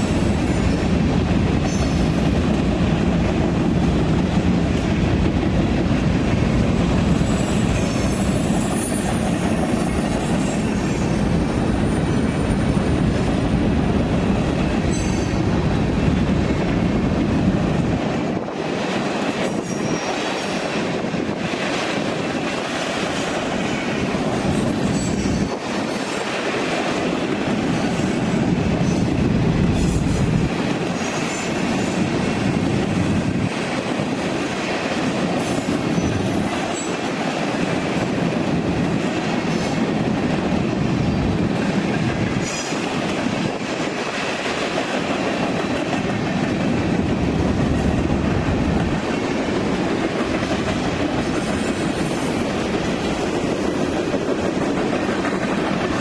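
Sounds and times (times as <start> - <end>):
steel wheels rolling on rail: 0.0 - 56.0.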